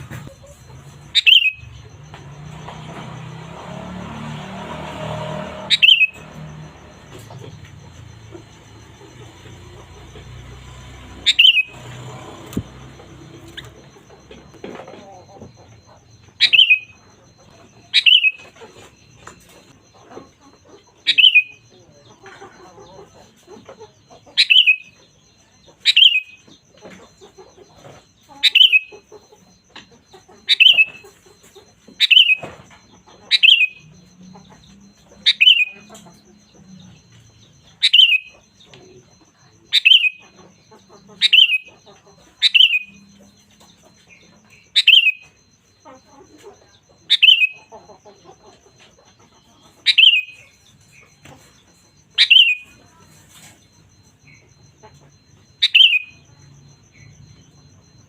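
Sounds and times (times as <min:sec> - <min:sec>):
bird calling: 0:00.0 - 0:03.4, 0:05.0 - 0:58.0.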